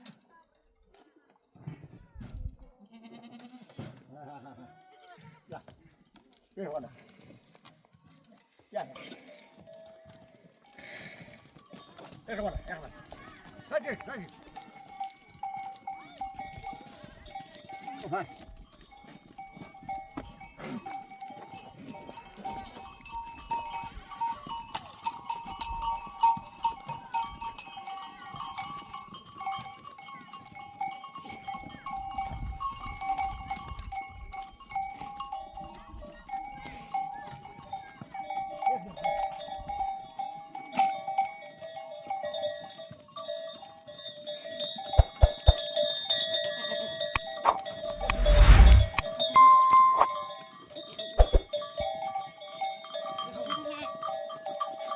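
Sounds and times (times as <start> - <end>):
animal bells clinking: 6.0 - 48.6, 49.2 - 54.9.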